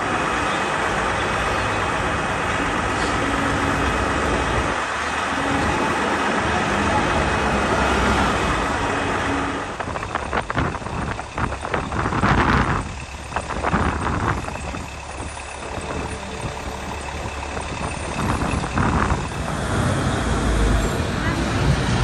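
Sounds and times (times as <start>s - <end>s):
vehicle engine idling: 0.0s - 21.4s
road traffic: 0.0s - 22.0s.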